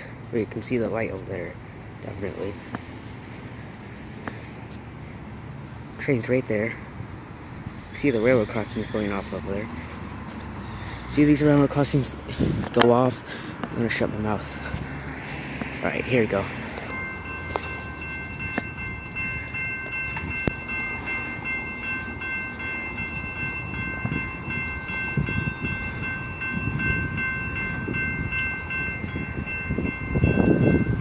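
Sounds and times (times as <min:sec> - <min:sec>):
approaching train rumble: 0:00.0 - 0:31.0
crossing signal bells ringing: 0:00.0 - 0:31.0.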